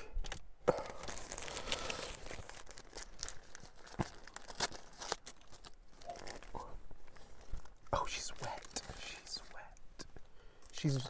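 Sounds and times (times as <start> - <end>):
paper wrapper crinkling: 0.2 - 9.6, 10.7 - 11.0.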